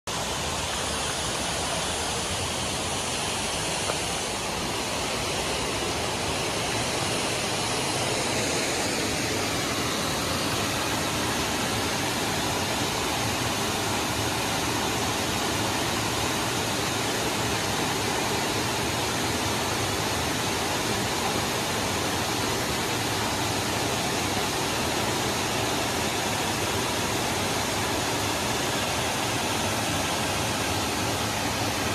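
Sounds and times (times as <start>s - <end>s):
waterfall rushing over rocks: 0.1s - 31.9s.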